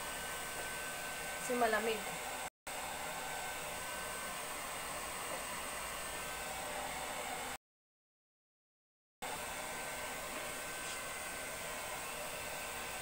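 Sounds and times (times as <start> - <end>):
hair dryer whirring: 0.0 - 7.6, 9.2 - 13.0.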